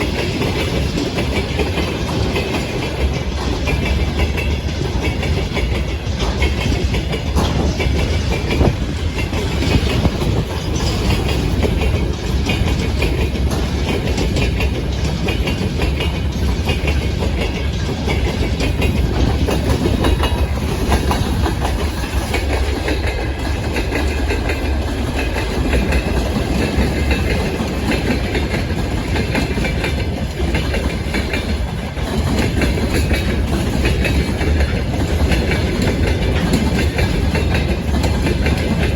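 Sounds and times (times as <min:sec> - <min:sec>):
freight train rumble: 0:00.0 - 0:38.9
wheels clattering over rail joints: 0:00.0 - 0:38.9.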